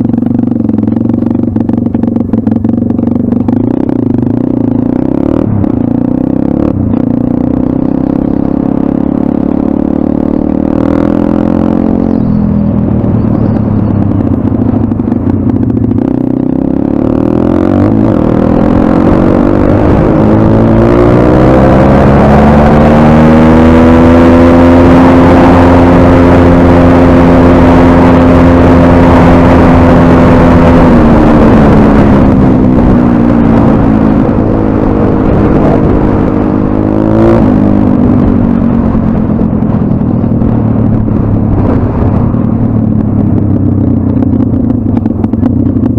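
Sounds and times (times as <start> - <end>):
pit bike engine revving: 0.0 - 45.9.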